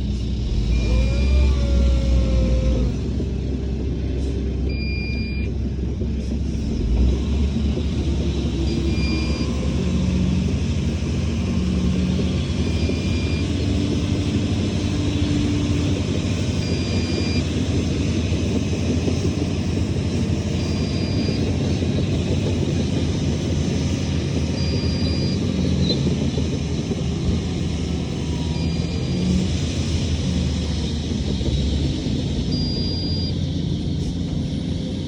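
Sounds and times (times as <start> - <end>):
diesel machinery rumbling: 0.0 - 35.0.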